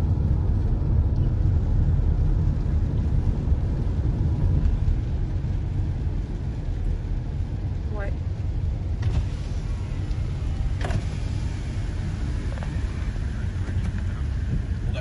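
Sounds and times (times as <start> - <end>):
car driving on wet road: 0.0 - 15.0.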